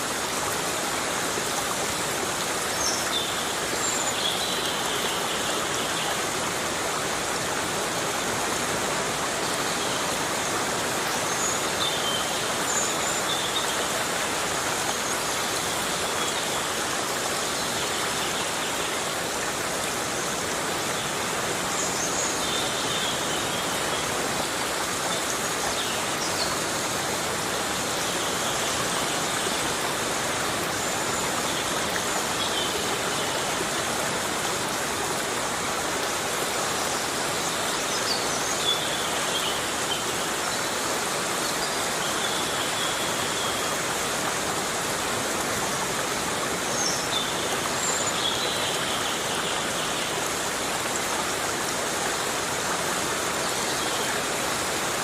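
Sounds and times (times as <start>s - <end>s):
heavy rain in a forest: 0.0s - 55.0s.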